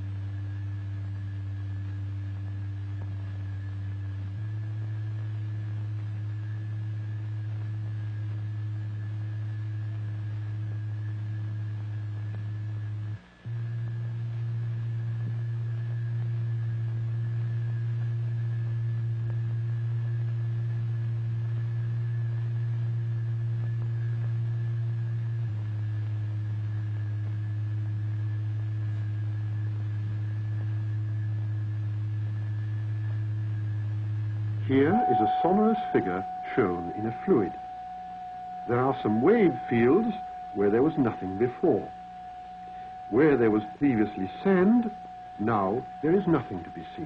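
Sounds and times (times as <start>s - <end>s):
low electronic sine tone: 0.0s - 47.0s.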